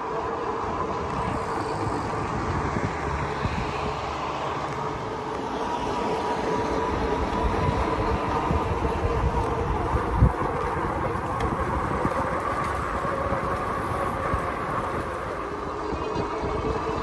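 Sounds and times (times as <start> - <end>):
low tyre rumble: 0.0 - 17.0
steady motor whine: 0.0 - 17.0
wind rushing over microphone: 0.0 - 17.0.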